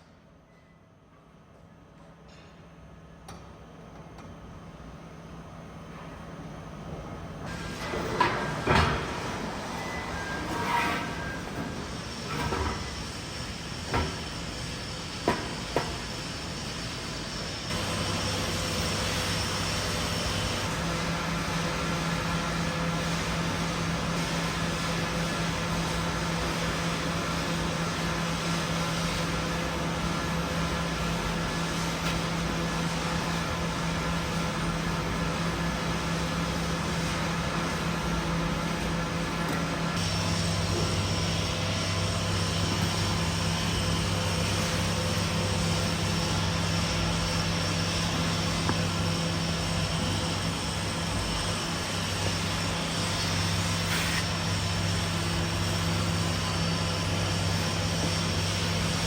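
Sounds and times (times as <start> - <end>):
machine humming: 5.3 - 59.0.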